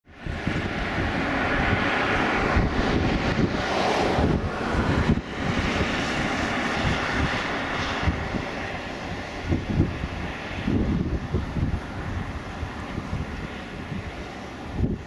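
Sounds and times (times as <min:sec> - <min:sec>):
distant propeller plane drone: 0:00.0 - 0:15.0
wind gusting on microphone: 0:00.0 - 0:15.0.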